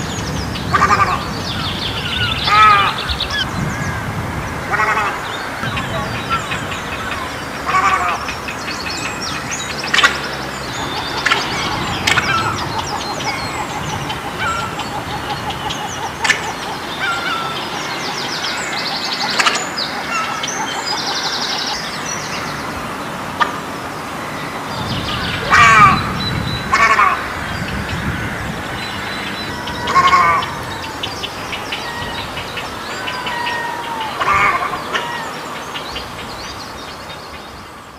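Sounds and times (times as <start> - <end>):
egrets calling: 0.0 - 36.2
rapid rattling bird calls: 0.0 - 37.9.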